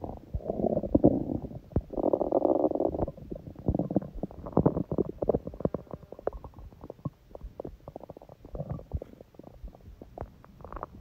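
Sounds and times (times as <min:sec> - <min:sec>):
stomach growling: 0:00.0 - 0:11.0.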